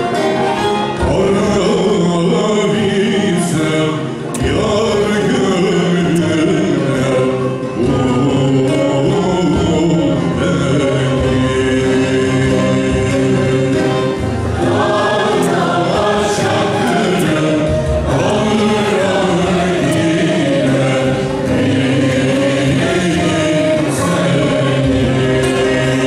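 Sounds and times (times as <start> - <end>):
choir singing: 0.0 - 26.0
folk ensemble playing: 0.0 - 26.0
man singing folk song: 0.9 - 26.0.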